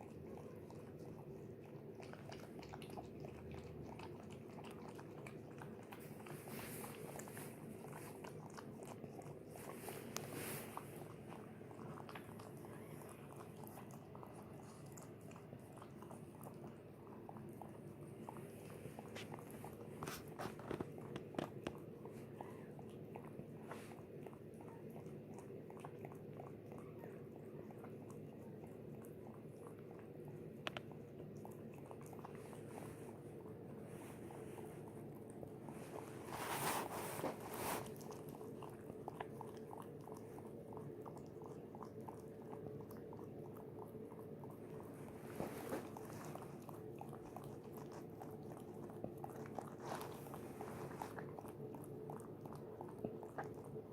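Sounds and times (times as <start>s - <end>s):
dog licking and chewing puppy: 0.0s - 53.9s.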